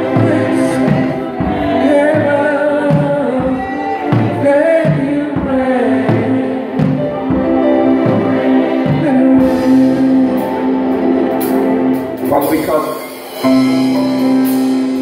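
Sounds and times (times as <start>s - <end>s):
bass and drum beat: 0.0s - 15.0s
keyboard chords: 0.0s - 15.0s
person singing: 0.0s - 15.0s.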